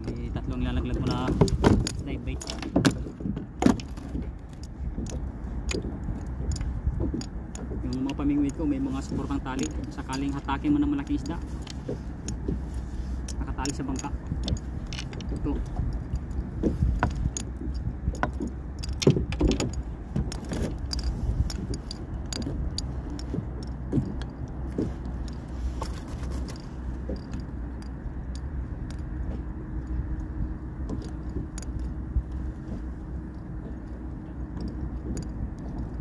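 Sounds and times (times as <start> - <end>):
fishing tackle clicking and knocking: 0.0 - 36.0
steady low rumble: 0.0 - 36.0.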